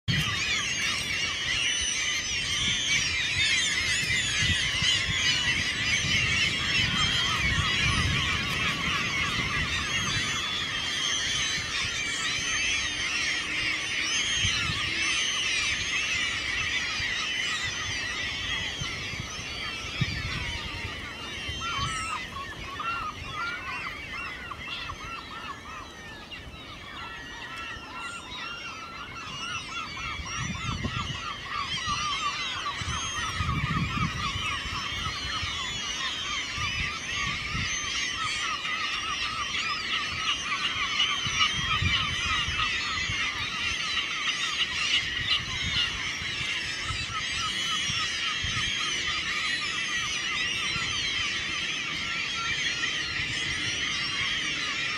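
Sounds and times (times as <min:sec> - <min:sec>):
flock of gulls calling: 0:00.0 - 0:54.9.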